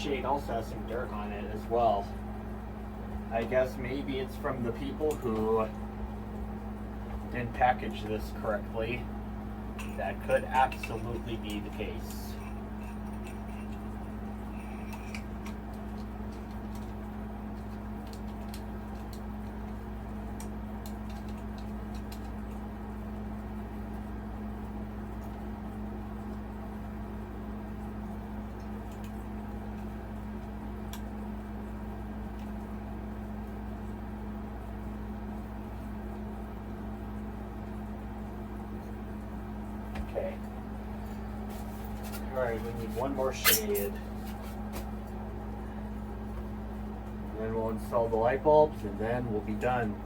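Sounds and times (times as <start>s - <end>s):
air conditioner humming: 0.0s - 50.0s.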